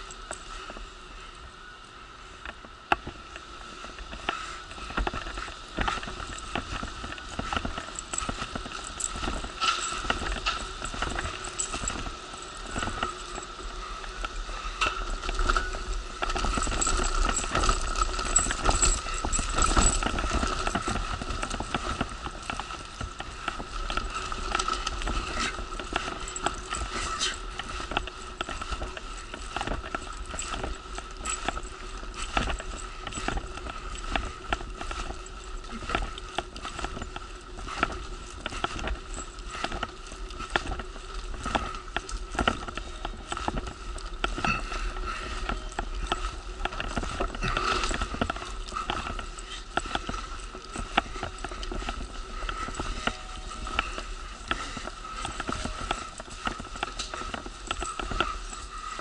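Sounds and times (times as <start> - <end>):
wheelchair rattling over pavement: 0.0 - 1.5, 2.4 - 59.0
steady high whine: 0.0 - 59.0.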